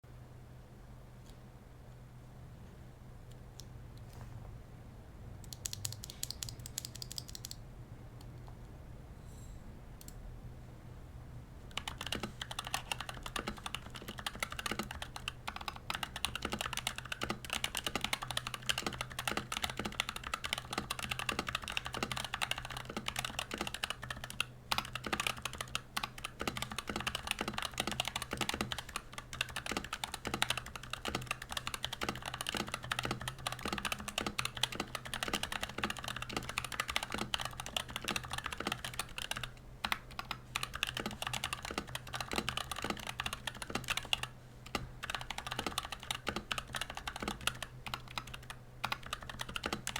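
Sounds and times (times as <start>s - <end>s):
typing on mechanical keyboard: 5.5s - 7.6s, 11.7s - 49.9s.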